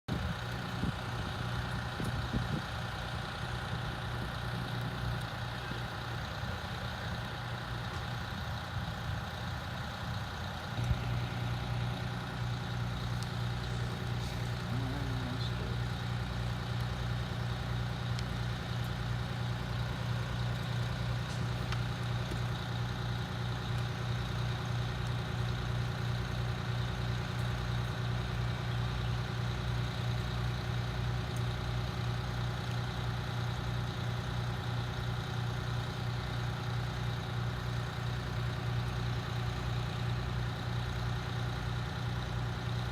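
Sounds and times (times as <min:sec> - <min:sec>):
vehicle engine idling: 0:00.1 - 0:42.9.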